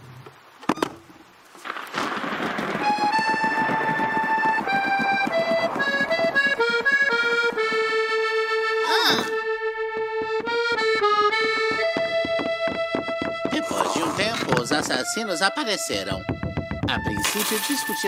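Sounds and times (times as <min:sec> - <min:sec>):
instrumental background music: 0:03.0 - 0:18.0.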